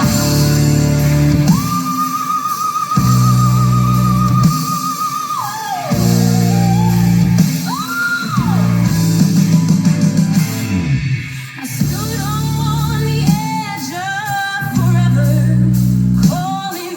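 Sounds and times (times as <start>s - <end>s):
rock music on phone playback: 0.0s - 16.9s.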